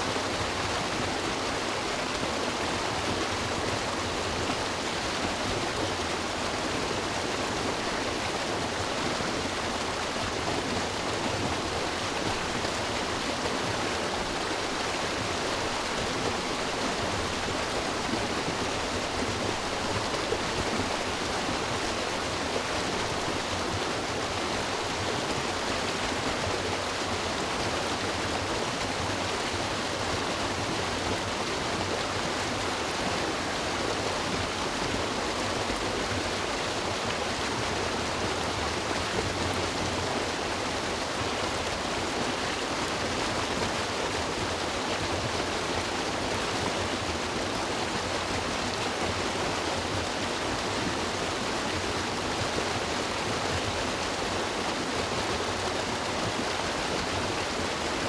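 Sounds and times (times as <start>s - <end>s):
river water rushing and splashing: 0.0s - 58.0s.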